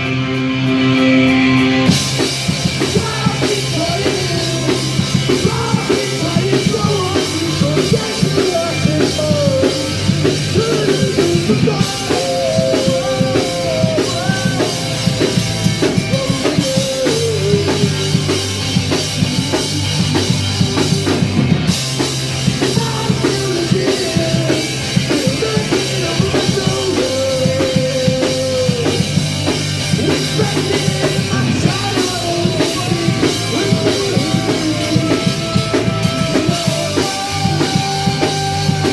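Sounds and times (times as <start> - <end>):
punk rock band playing: 0.0 - 38.9
person singing: 2.7 - 18.4, 22.4 - 29.2, 29.9 - 38.9.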